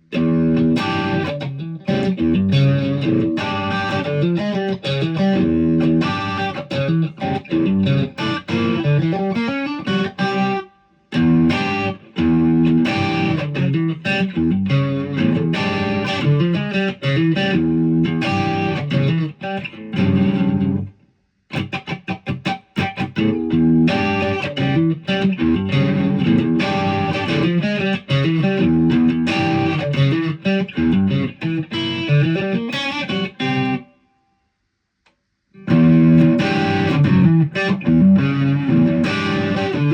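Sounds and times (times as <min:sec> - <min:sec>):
electric guitar riffs: 0:00.0 - 0:34.2, 0:35.6 - 0:39.9.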